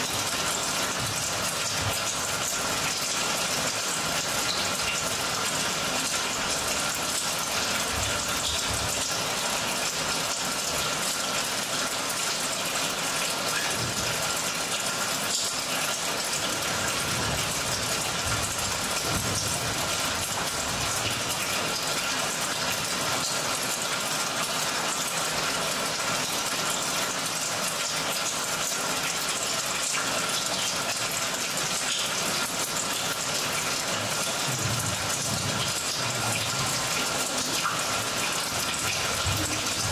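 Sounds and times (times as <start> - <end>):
rushing water-like noise: 0.0 - 39.9.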